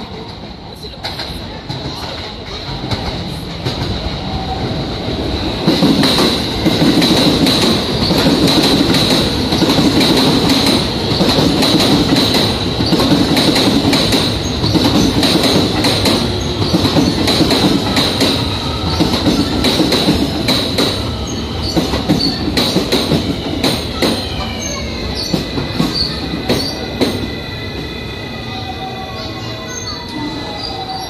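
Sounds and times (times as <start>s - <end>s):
train wheels clattering: 0.0s - 27.4s.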